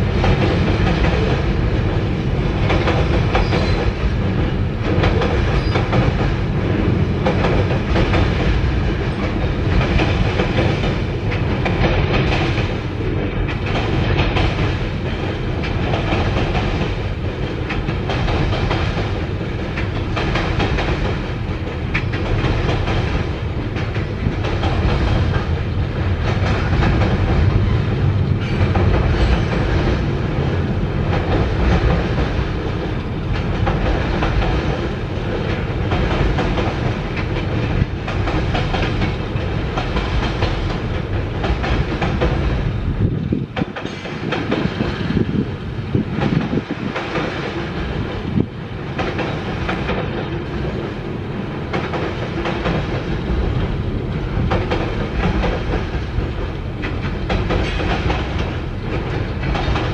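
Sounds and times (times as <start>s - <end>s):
freight train rumbling over bridge: 0.0s - 59.9s
wheels clicking over rail joints: 0.1s - 59.9s.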